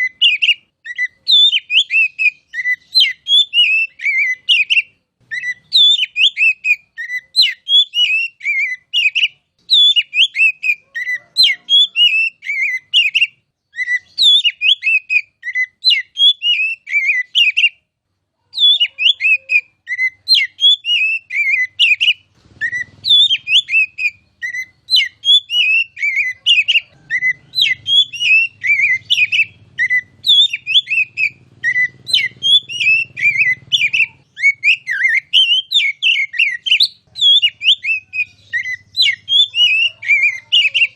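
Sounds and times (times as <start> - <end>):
bird whistling song: 0.0 - 17.8, 18.5 - 40.9.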